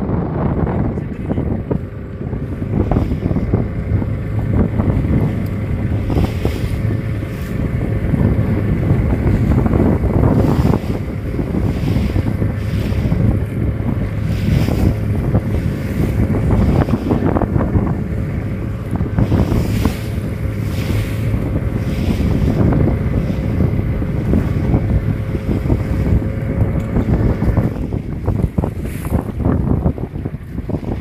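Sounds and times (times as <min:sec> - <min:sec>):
boat motor humming: 0:00.0 - 0:31.0
water sloshing against hull: 0:00.0 - 0:31.0
wind buffeting microphone: 0:00.0 - 0:31.0.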